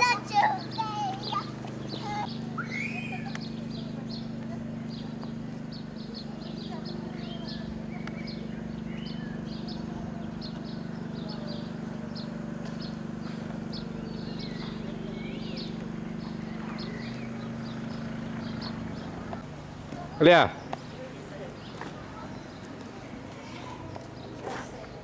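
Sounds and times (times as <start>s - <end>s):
steady low hum: 0.0s - 24.3s
small birds chirping: 0.0s - 25.0s.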